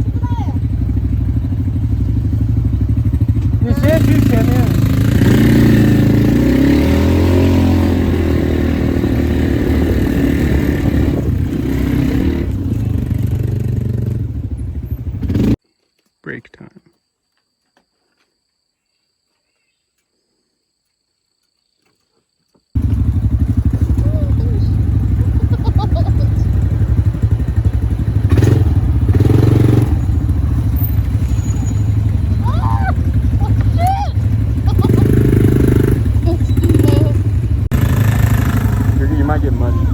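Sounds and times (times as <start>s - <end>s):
quad bike engine running: 0.0s - 15.6s, 22.8s - 39.9s.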